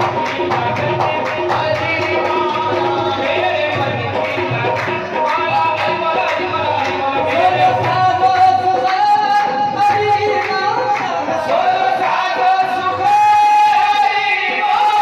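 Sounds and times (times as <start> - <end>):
tabla beat: 0.0 - 15.0.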